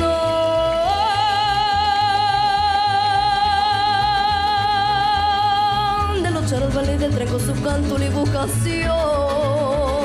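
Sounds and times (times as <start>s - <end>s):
girl singing with vibrato: 0.0s - 10.0s
mariachi band playing: 0.0s - 10.0s.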